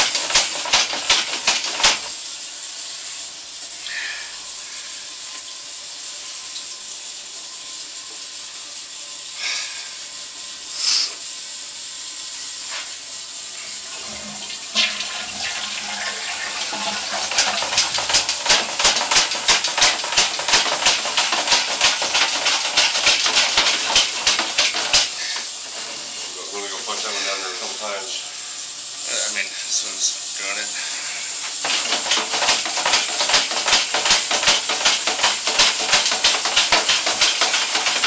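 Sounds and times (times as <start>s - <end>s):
water running in a pipe: 0.0s - 38.0s.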